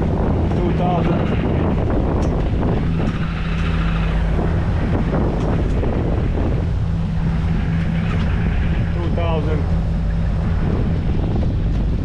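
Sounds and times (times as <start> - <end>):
marine diesel engine running: 0.0 - 12.0
water noise: 0.0 - 12.0
wind on microphone: 0.0 - 12.0.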